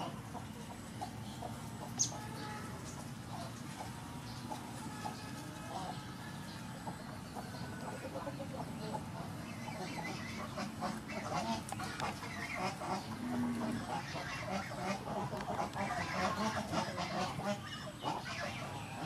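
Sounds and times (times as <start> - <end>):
chicken calling: 0.0 - 19.0.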